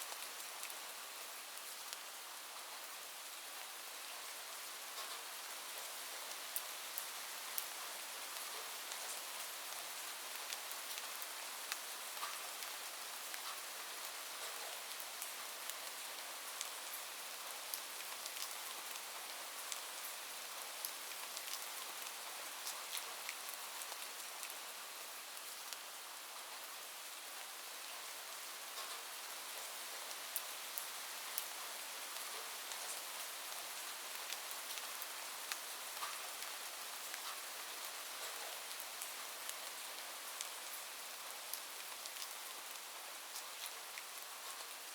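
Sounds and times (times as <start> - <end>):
light rain hissing: 0.0 - 44.9
raindrops ticking on a surface: 0.1 - 44.9.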